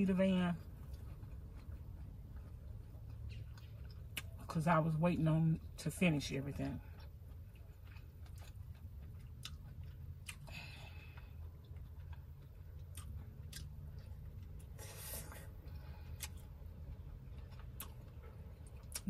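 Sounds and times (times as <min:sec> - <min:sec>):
steady low hum: 0:00.0 - 0:19.0
person chewing: 0:00.6 - 0:04.5, 0:06.8 - 0:19.0.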